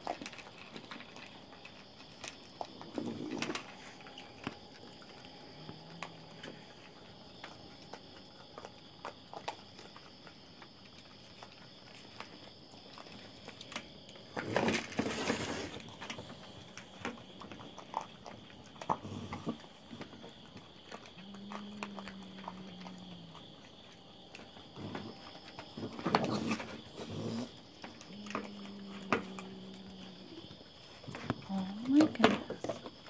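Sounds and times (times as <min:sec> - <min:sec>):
raccoons crunching food: 0:00.0 - 0:33.0.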